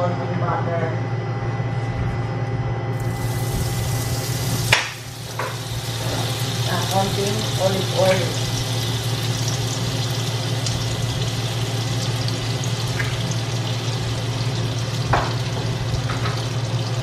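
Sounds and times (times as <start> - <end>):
low hum: 0.0 - 17.0
butter and oil sizzling in a pan: 3.0 - 17.0.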